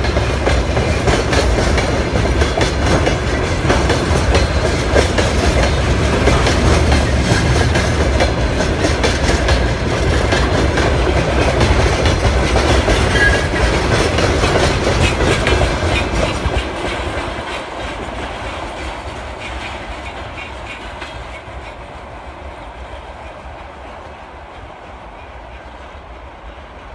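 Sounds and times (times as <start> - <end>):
train wheels clattering on rails: 0.0 - 26.9.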